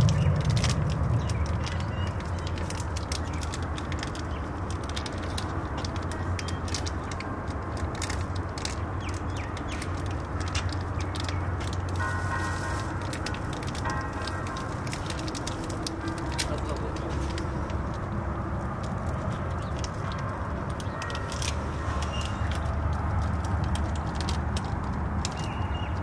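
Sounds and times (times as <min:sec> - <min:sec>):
crackles and clicks: 0:00.0 - 0:26.0.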